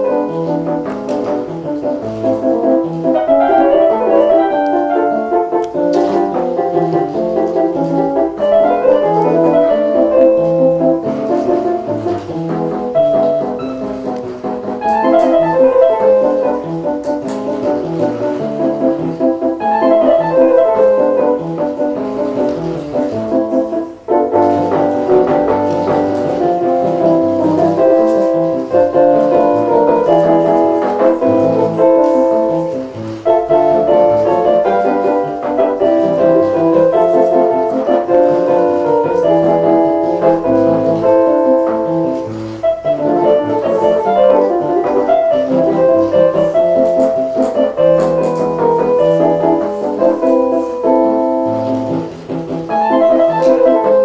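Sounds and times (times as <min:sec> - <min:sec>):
piano waltz: 0:00.0 - 0:54.0.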